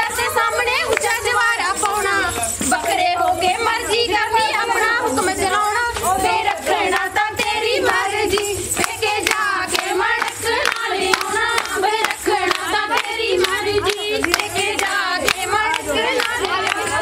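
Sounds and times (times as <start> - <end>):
women singing together: 0.0 - 17.0
hand clapping: 0.7 - 3.1, 4.6 - 17.0.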